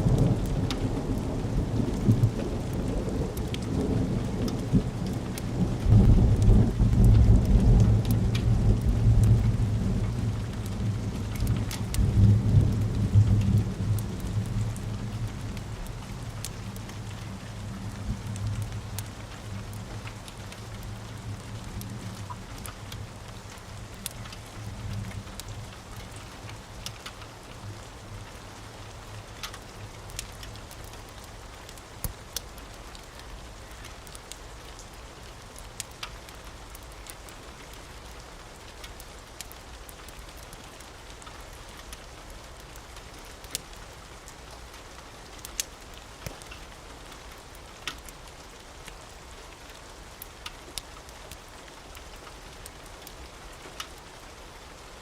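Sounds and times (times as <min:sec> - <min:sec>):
rain hiss: 0:00.0 - 0:55.0
wood fire crackling: 0:00.0 - 0:55.0.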